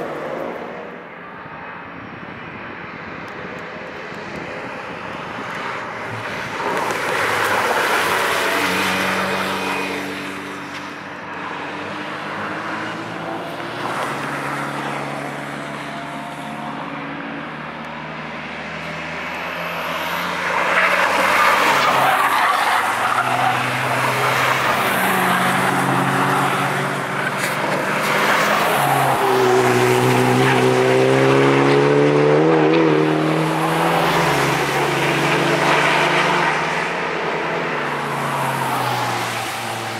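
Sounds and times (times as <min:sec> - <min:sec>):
cars revving past: 0:03.5 - 0:39.9.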